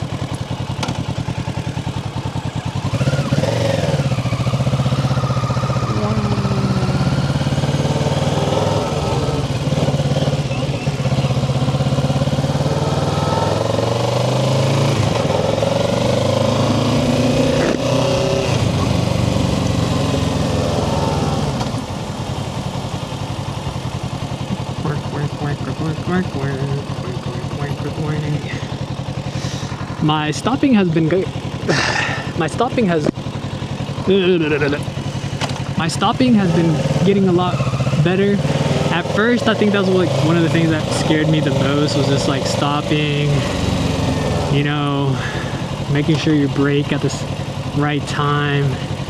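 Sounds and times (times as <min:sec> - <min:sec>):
motorcycle engine accelerating through gears: 0:00.0 - 0:49.0.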